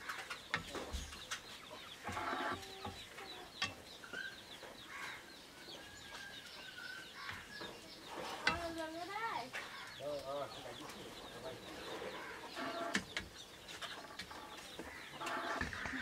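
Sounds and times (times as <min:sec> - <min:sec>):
chickens clucking: 0:00.0 - 0:16.0
small birds chirping: 0:00.0 - 0:16.0.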